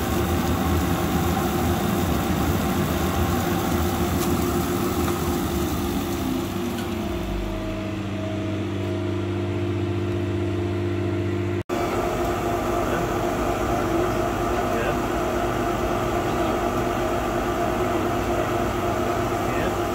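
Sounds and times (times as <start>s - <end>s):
exhaust fan running: 0.0s - 19.9s
laser cutter machine hum: 0.0s - 19.9s.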